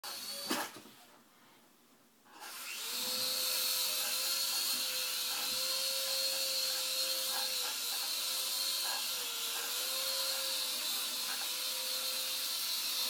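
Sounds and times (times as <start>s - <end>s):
toy electric motors whining: 0.0s - 0.8s, 2.4s - 13.0s.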